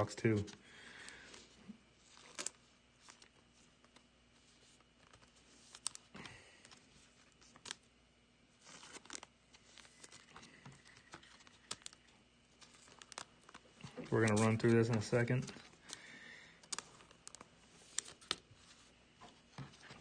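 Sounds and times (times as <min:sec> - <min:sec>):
plastic sleeves crinkling: 0:00.0 - 0:07.9, 0:08.5 - 0:20.0.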